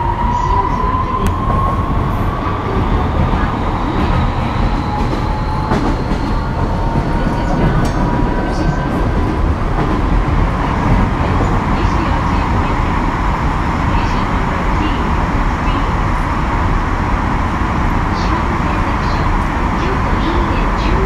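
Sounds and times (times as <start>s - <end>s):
rumble of train wheels: 0.0s - 21.0s
train inverter whining: 0.0s - 21.0s.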